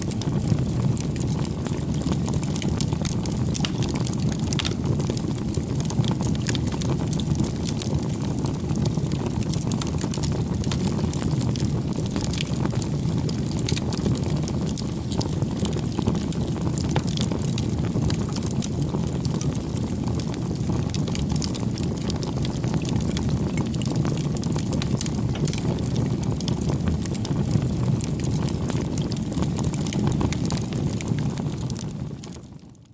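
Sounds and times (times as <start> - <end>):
fire crackling and popping: 0.0 - 32.9
wood fire burning: 0.0 - 32.9.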